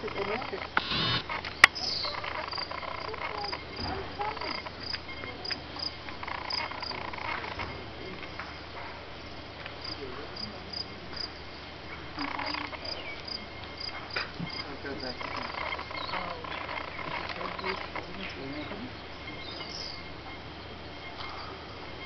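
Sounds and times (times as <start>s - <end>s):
crickets chirping: 0.0s - 22.0s
low steady hiss: 0.0s - 22.0s.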